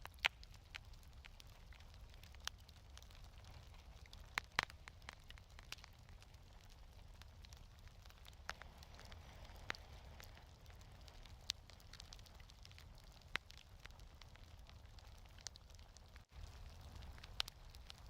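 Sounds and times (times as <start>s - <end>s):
low rumble of fire: 0.0s - 18.0s
wood fire popping: 0.0s - 18.0s.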